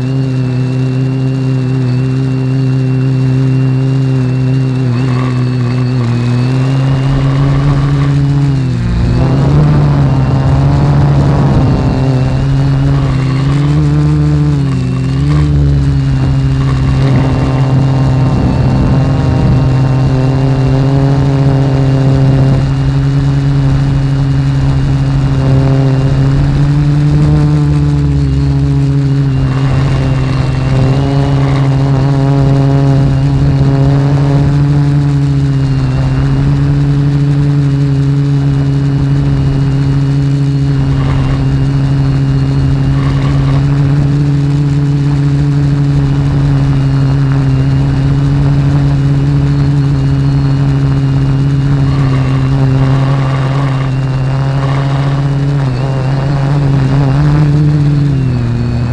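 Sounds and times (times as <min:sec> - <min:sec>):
drone motors humming: 0:00.0 - 0:58.9.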